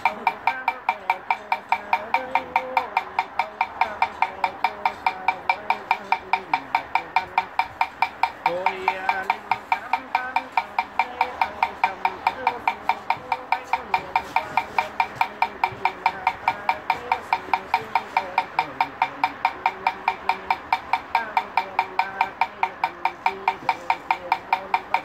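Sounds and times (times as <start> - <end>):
wooden fish knocks: 0.0 - 25.0.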